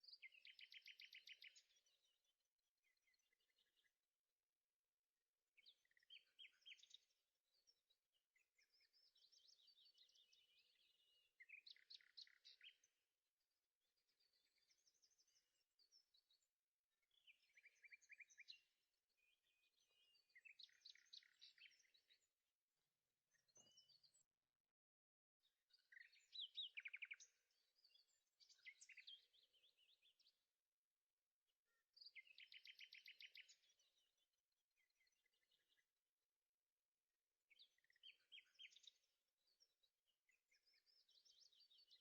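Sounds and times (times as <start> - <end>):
faint bird song: 0.0 - 42.0.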